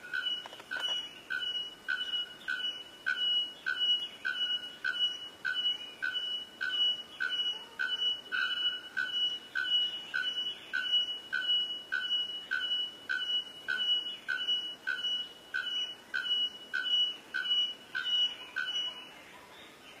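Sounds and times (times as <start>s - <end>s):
bird calling with metallic notes: 0.0s - 19.6s.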